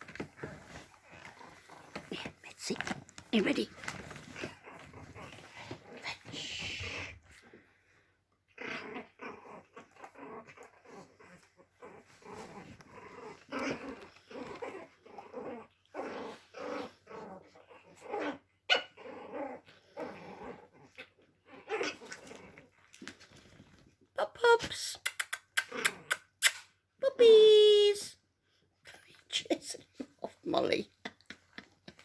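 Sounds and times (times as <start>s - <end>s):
dogs growling playfully: 0.0s - 24.1s, 25.4s - 26.4s, 28.5s - 32.0s.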